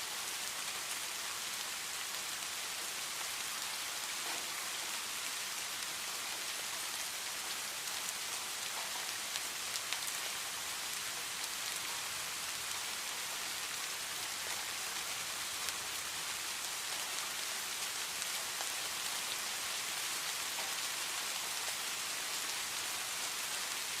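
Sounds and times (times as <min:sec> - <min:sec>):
rain on foliage: 0:00.0 - 0:24.0.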